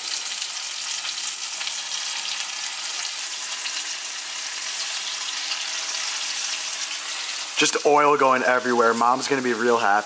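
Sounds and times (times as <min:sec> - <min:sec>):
fish fillets frying in oil: 0:00.0 - 0:10.0.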